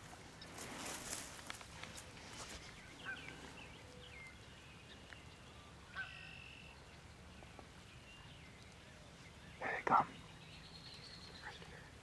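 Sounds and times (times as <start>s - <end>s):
wild bird calls: 0.4s - 12.0s.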